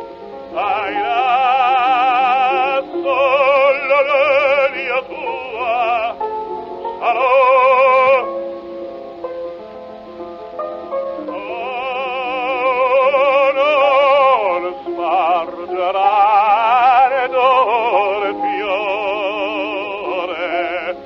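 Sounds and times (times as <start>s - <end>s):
operatic baritone singing: 0.5s - 8.5s, 11.2s - 21.0s.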